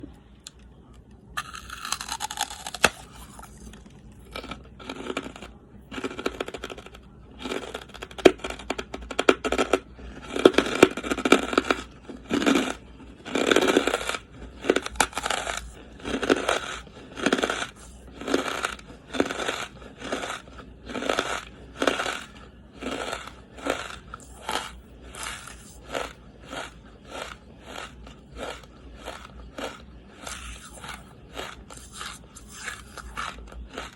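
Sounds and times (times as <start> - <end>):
charcoal being chewed: 0.1 - 33.9
scraping crackle: 1.4 - 33.9.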